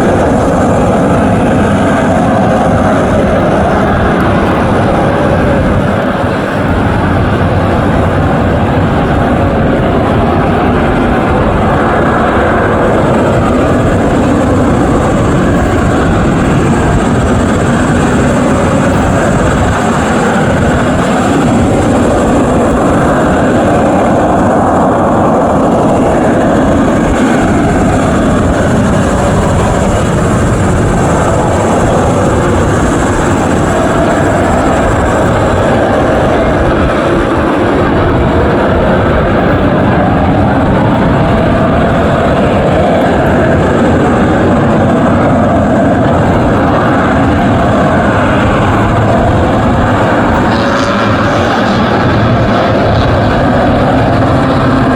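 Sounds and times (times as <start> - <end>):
jet engine rumble with whine: 0.0 - 54.9.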